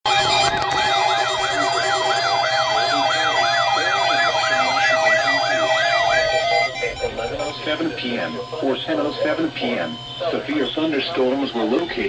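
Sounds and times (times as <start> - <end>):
electronic siren yelping: 0.1 - 12.0
steady tones: 0.1 - 12.0.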